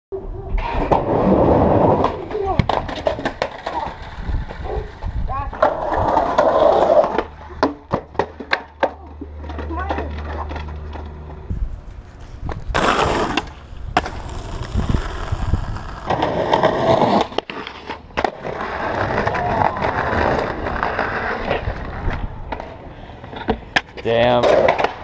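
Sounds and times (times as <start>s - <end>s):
skateboard wheels rolling on concrete: 0.2s - 25.0s
skateboard clacking on ground: 2.0s - 11.4s, 12.1s - 25.0s.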